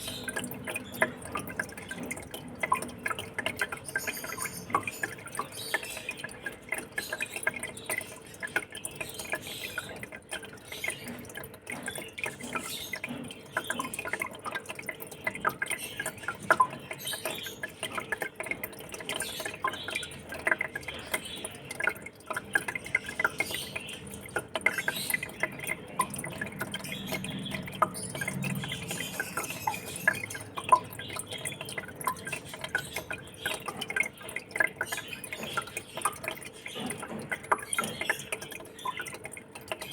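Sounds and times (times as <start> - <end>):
fish tank water trickling: 0.0 - 39.9.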